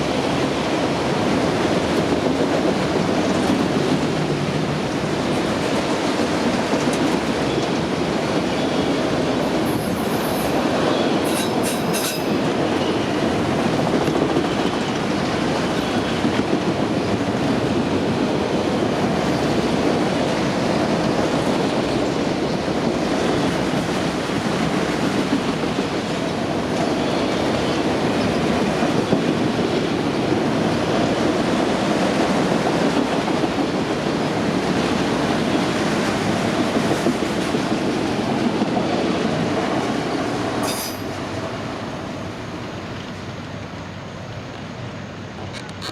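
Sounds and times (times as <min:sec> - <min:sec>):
train wheels rumbling over rails: 0:00.0 - 0:45.9.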